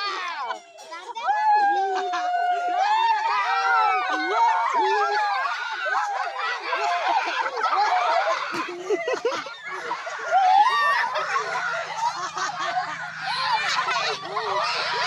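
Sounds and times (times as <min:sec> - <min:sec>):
children chattering and laughing: 0:00.0 - 0:15.0.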